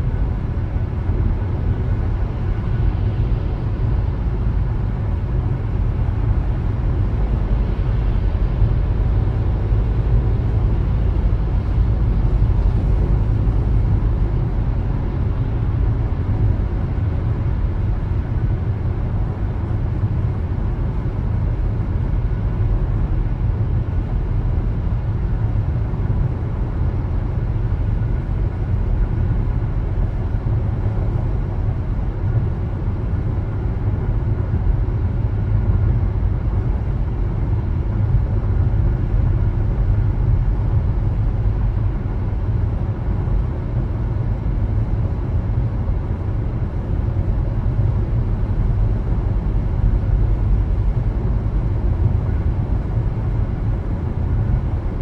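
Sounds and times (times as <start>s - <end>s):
car tyre and engine rumble: 0.0s - 55.0s.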